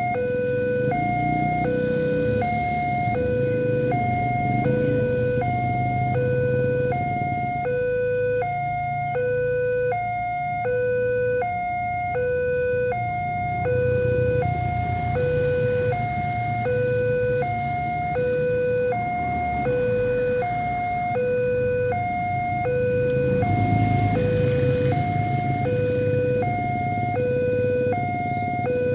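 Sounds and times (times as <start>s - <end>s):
two-tone electronic alarm: 0.0s - 28.9s.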